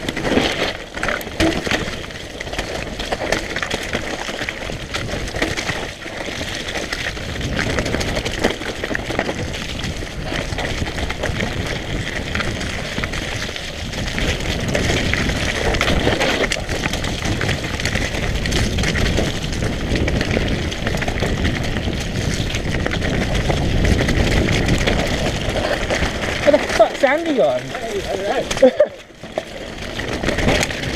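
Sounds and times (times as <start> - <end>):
bike knocking and rattling: 0.0 - 30.9
tyre noise: 0.0 - 30.9.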